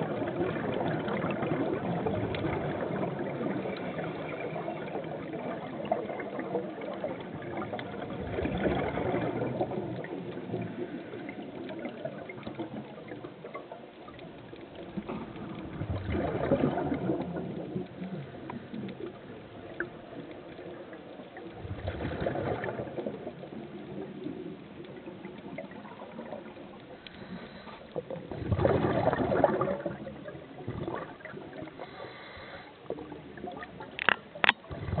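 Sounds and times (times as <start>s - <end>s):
exhaust bubbles gurgling: 0.0s - 35.0s
steady underwater hiss: 0.0s - 35.0s.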